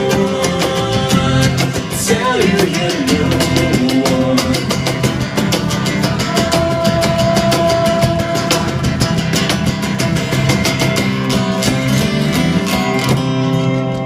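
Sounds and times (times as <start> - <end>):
drums: 0.0 - 14.0
strummed acoustic guitar: 0.0 - 14.0.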